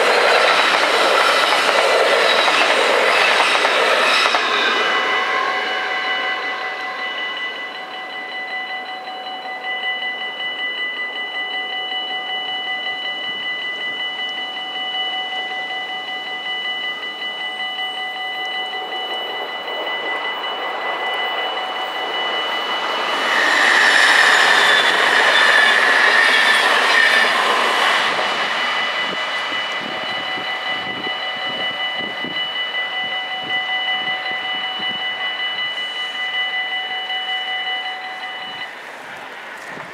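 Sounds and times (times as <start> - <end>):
level-crossing bells ringing: 0.0 - 38.9
electric train passing: 0.0 - 39.9
high squeal of train: 0.0 - 39.9.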